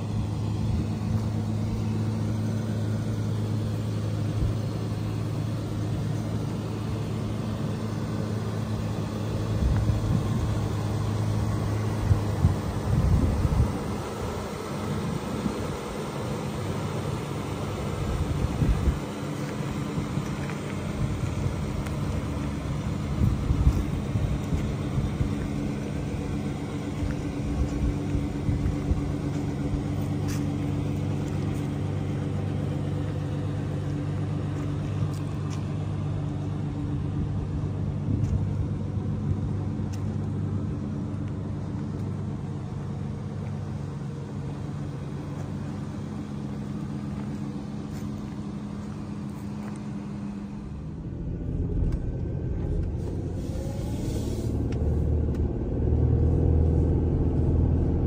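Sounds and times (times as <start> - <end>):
road noise: 0.0 - 58.0
truck engine idling: 0.0 - 58.0.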